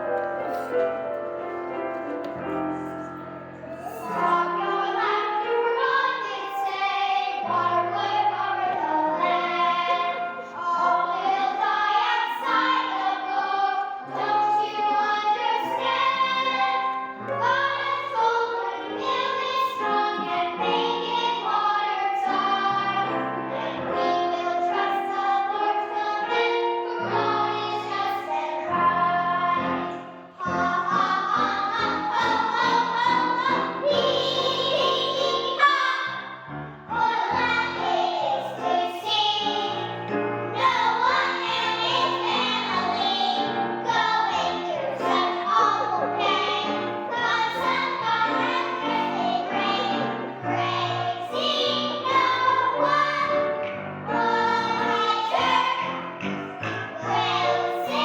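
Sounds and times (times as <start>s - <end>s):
children's choir singing: 0.0s - 58.0s
instrumental accompaniment: 0.0s - 58.0s.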